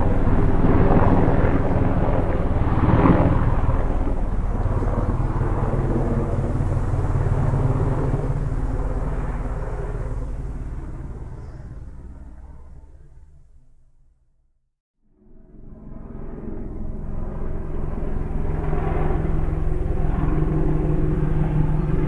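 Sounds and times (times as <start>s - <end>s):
helicopter rotor and engine drone: 0.0s - 13.7s, 15.0s - 22.0s.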